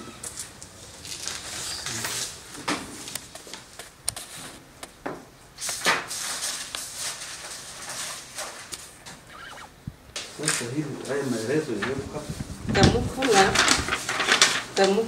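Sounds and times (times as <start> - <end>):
papers rustling and shuffling: 0.2 - 5.0, 5.6 - 9.2, 10.2 - 15.0.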